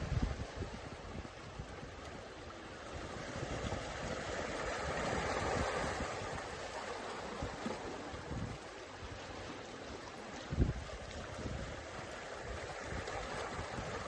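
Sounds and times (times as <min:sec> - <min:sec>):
wind buffeting microphone: 0:00.0 - 0:09.3, 0:10.4 - 0:14.0
water rushing: 0:00.0 - 0:14.0.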